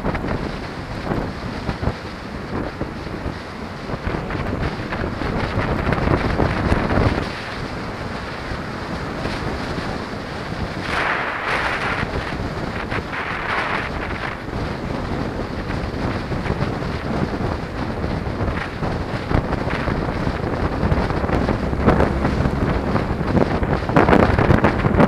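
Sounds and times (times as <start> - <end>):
road and traffic noise: 0.0 - 25.0
wind rushing over microphone: 0.0 - 25.0.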